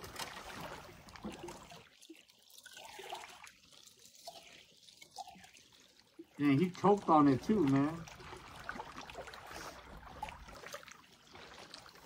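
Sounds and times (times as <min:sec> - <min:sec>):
water trickling among rocks: 0:00.0 - 0:12.0.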